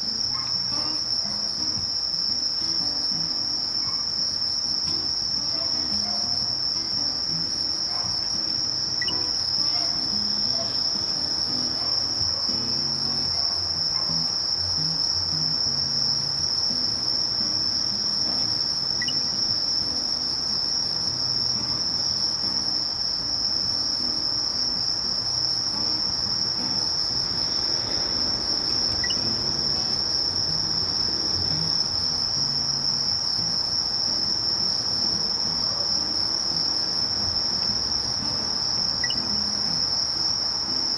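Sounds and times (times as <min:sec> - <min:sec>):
katydid high-pitched trill: 0:00.0 - 0:40.9.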